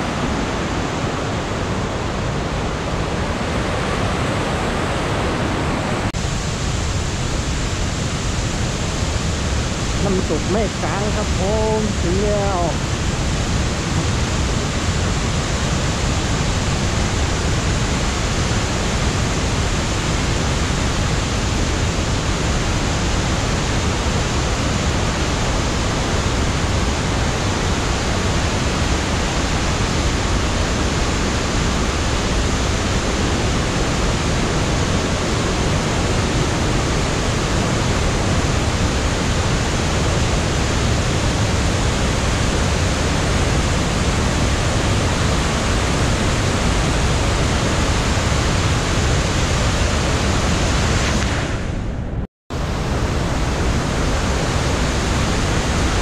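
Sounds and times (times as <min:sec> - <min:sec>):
waterfall rushing: 0:00.0 - 0:51.8, 0:52.6 - 0:56.0.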